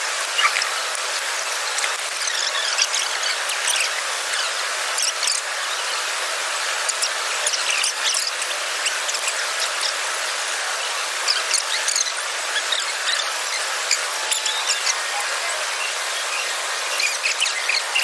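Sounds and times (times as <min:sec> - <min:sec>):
indoor waterfall rushing: 0:00.0 - 0:18.0.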